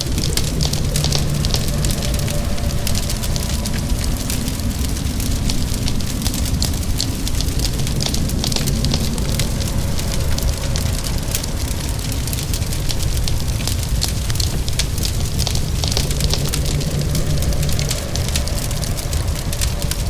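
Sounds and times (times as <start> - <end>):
rain: 0.0 - 20.0
wood fire crackling: 0.0 - 20.0.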